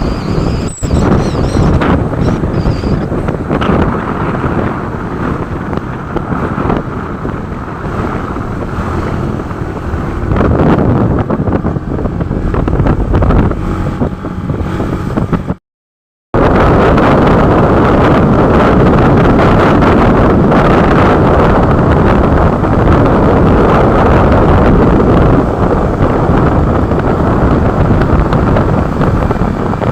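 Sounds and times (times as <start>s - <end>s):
motorcycle engine and road noise: 0.0s - 15.6s, 16.4s - 29.9s
wind on microphone: 0.0s - 15.6s, 16.4s - 29.9s.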